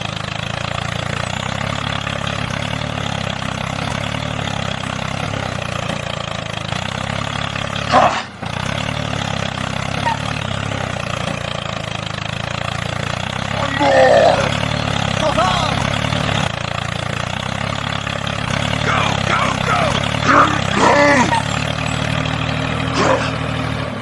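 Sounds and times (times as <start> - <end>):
small motor running: 0.0 - 23.4.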